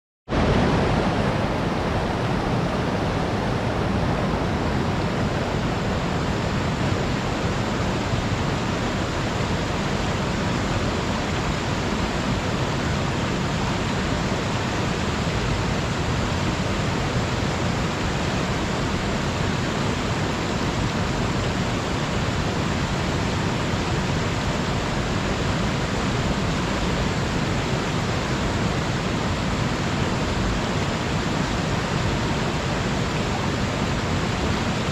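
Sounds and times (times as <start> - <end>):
river water roaring over rocks: 0.3 - 34.9.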